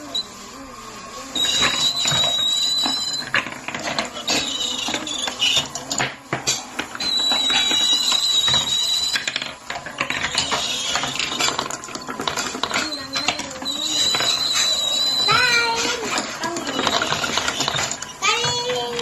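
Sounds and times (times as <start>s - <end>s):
thin high tone: 1.3s - 19.0s
marbles clattering on wooden track: 1.4s - 19.0s.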